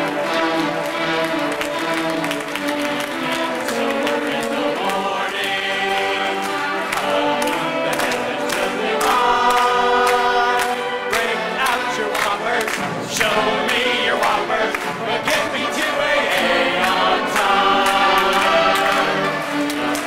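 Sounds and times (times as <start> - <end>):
chorus singing in harmony: 0.0 - 20.0.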